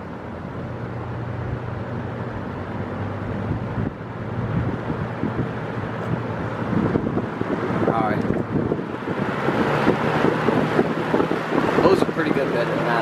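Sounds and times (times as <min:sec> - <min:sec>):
box fan running: 0:00.0 - 0:13.0.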